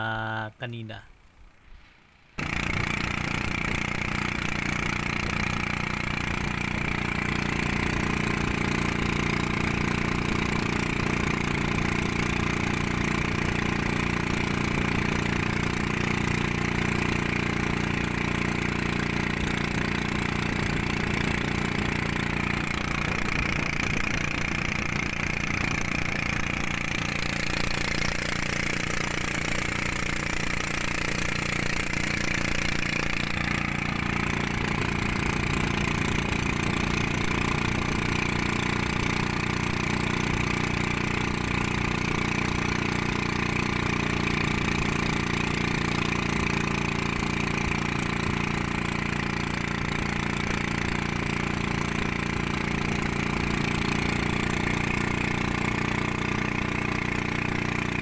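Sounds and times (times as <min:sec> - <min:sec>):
small boat engine running: 0:02.4 - 0:58.0.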